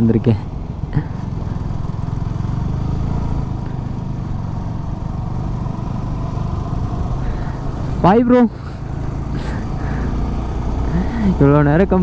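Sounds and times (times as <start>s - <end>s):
motorcycle engine drone: 0.0s - 12.0s
road noise: 0.0s - 12.0s.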